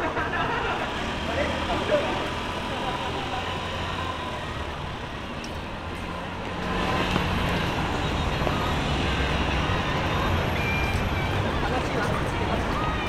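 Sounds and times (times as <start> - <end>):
hubbub of passers-by: 0.0 - 13.0
vehicle engine rumble: 0.0 - 13.0.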